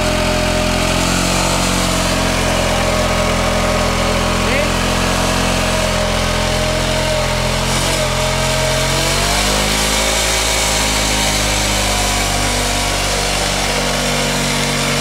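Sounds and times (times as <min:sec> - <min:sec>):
scooter engine high revs: 0:00.0 - 0:15.0.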